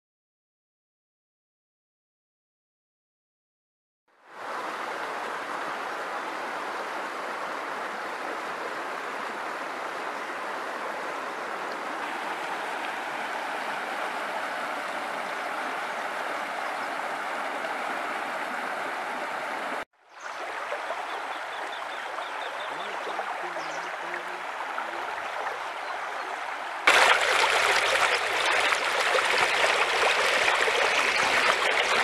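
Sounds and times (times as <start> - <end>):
river water flowing over stones: 4.3 - 32.0.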